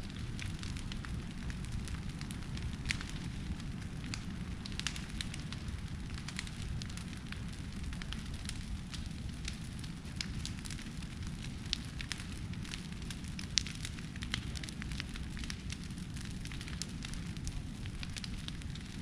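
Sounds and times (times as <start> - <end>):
fire crackling and popping: 0.0 - 19.0
roar of flames: 0.0 - 19.0.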